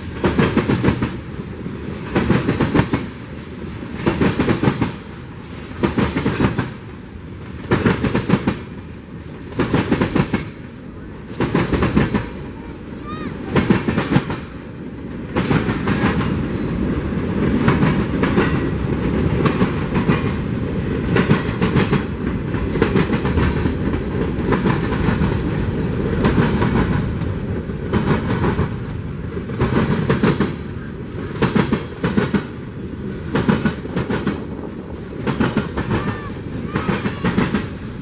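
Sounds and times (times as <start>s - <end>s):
freight train wheels clacking: 0.0s - 38.0s
train low rumble: 0.0s - 38.0s.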